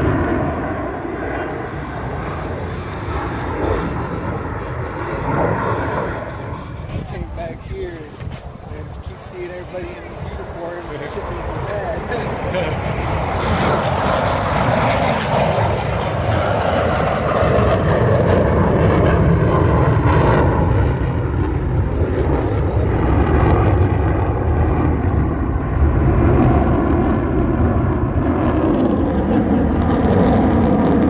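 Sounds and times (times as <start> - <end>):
jet aircraft flying overhead: 0.0 - 31.0.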